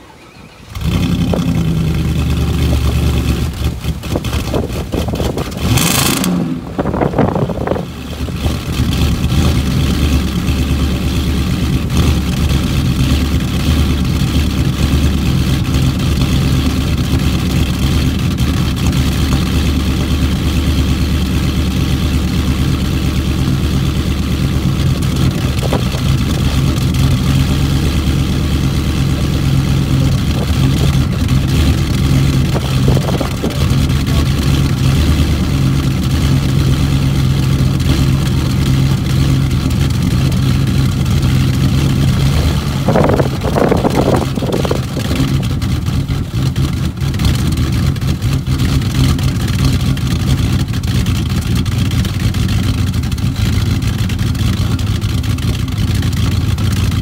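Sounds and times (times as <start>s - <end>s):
car exhaust running steadily: 0.0s - 57.0s.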